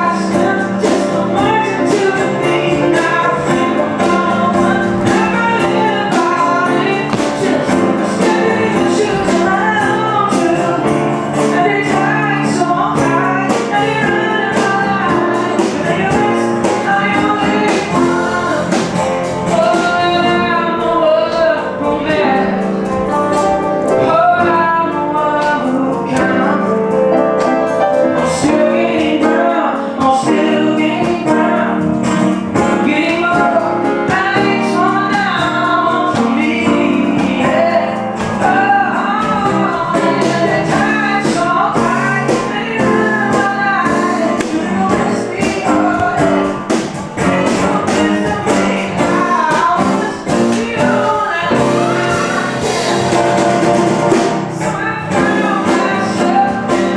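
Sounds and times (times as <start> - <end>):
keyboard: 0.0 - 56.9
percussion: 0.0 - 56.9
person singing: 0.0 - 56.9.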